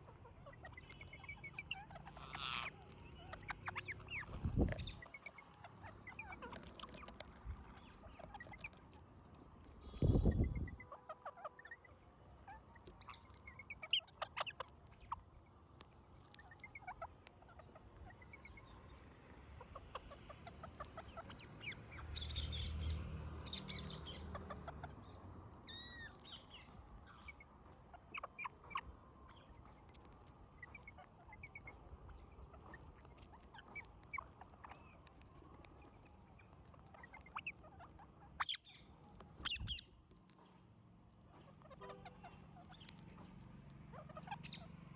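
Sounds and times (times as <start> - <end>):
parrots chirping and squawking: 0.0 - 40.6, 41.2 - 44.9.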